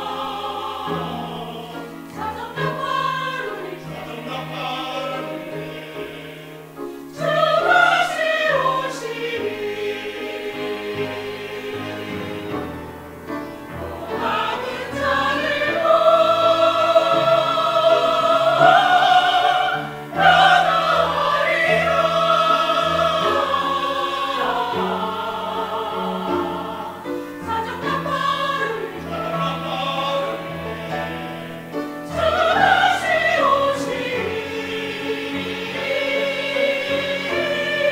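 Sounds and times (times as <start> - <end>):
mixed choir singing a hymn: 0.0 - 37.9.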